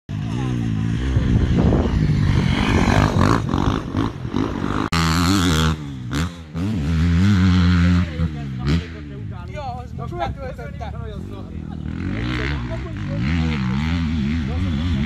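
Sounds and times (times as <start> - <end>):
motocross engines revving: 0.1 - 15.0.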